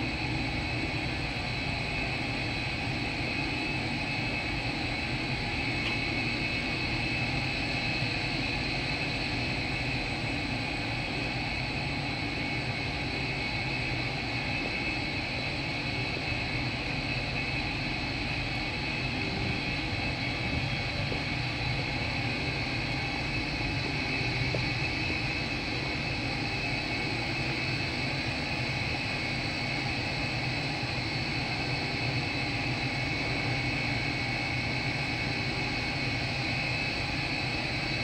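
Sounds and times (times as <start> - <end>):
high whine: 0.0 - 36.3
low mechanical hum: 0.0 - 38.0.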